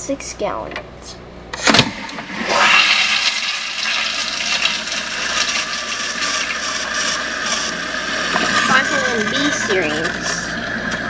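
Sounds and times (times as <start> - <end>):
toilet flush rush of water: 1.9 - 11.0.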